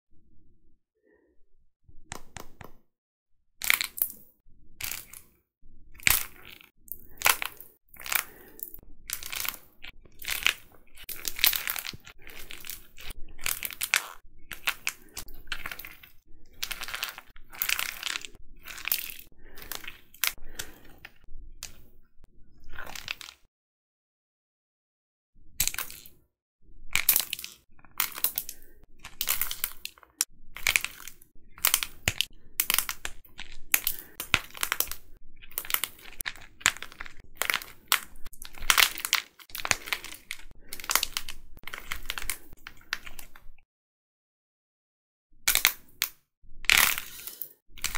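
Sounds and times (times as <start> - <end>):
clay crackling and crunching: 3.6 - 23.5, 26.8 - 43.6, 45.4 - 47.9.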